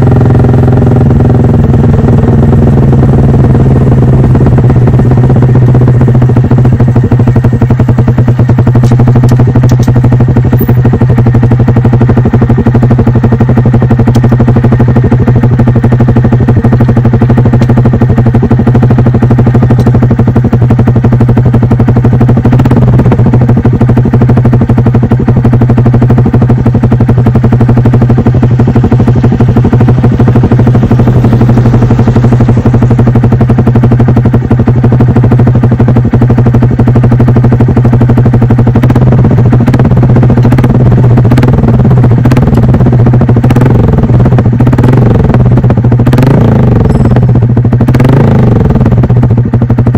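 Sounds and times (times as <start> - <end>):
motorcycle engine running steadily: 0.0 - 49.9.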